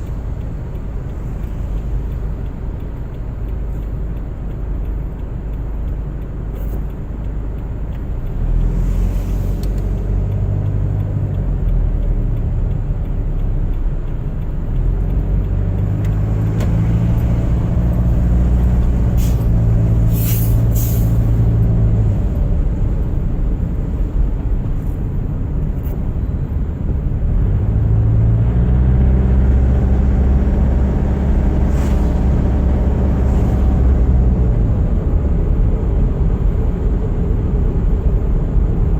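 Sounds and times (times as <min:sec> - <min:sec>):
car engine hum: 0:00.0 - 0:38.9
road and tyre noise: 0:00.0 - 0:38.9.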